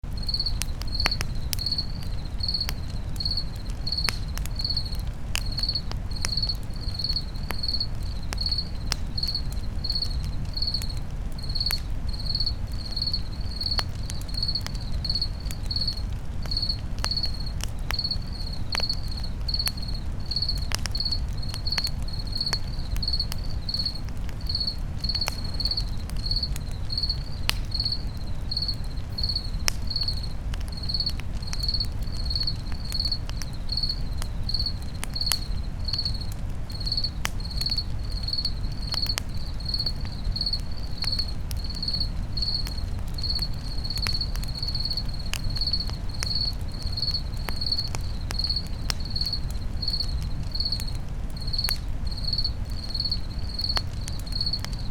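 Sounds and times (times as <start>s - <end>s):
campfire crackling and popping: 0.0s - 54.9s
cricket chirping: 0.1s - 54.9s.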